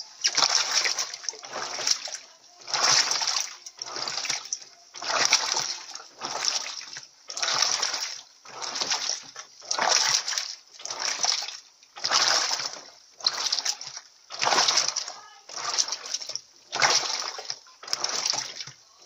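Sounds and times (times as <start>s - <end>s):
washing machine water sloshing: 0.0s - 19.0s.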